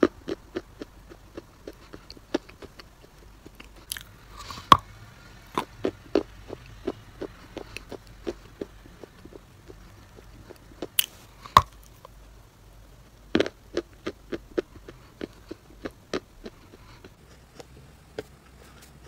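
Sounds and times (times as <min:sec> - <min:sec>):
chewing crisp crunches: 0:00.0 - 0:04.9, 0:05.5 - 0:12.2, 0:13.3 - 0:19.0.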